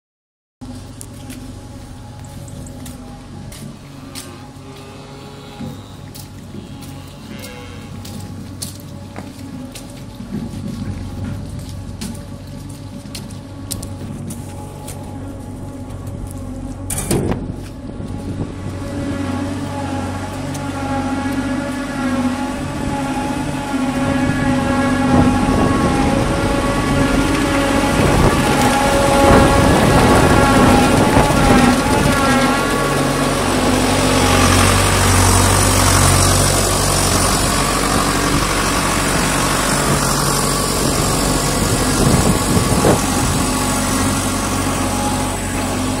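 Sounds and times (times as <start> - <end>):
feeder machine chopping silage: 0.6 - 46.0
tractor engine running under load: 0.6 - 46.0.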